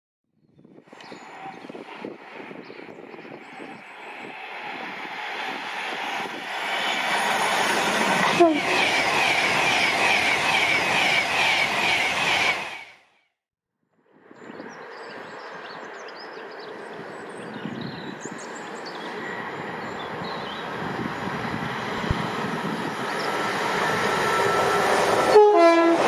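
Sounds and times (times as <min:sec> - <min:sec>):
train passing at speed: 0:00.9 - 0:13.2, 0:14.6 - 0:26.0.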